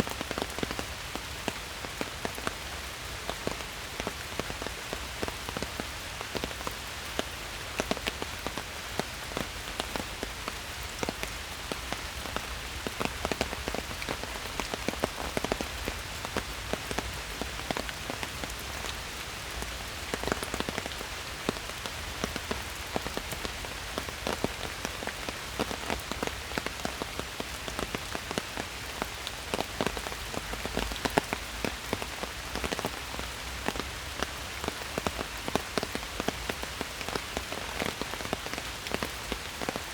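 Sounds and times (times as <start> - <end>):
rain falling in a forest: 0.0 - 39.9
raindrops pattering close by: 0.1 - 39.9.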